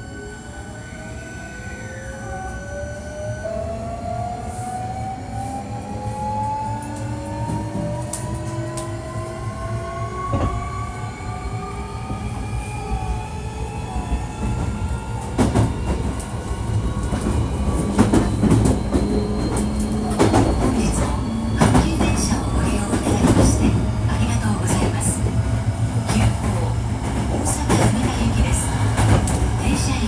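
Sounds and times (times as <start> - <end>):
train rolling noise: 0.0 - 30.0.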